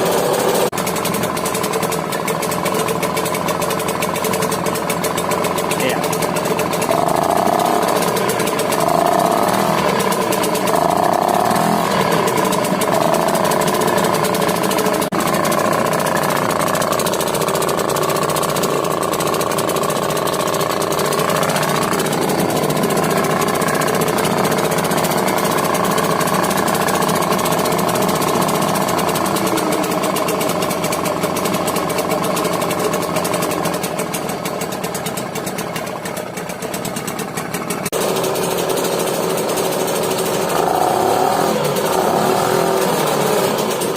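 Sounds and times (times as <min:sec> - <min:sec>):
outboard motor rattling: 0:00.0 - 0:43.9.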